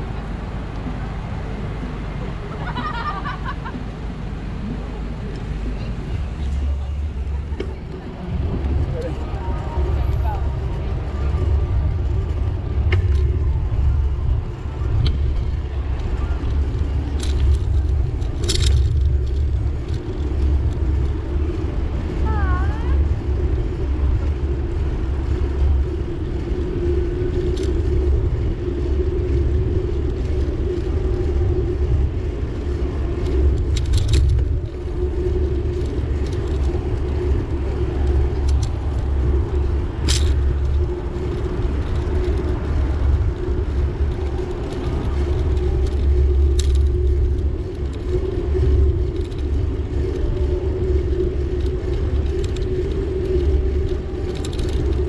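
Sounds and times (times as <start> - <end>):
vehicle rumble and hum: 0.0 - 55.0.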